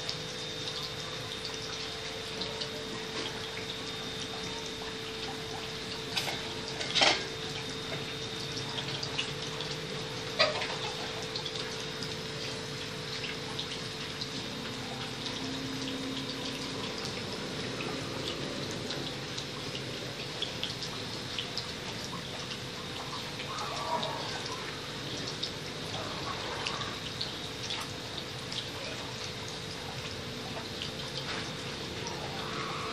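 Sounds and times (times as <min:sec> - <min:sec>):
refrigerant hissing and gurgling: 0:00.0 - 0:32.9.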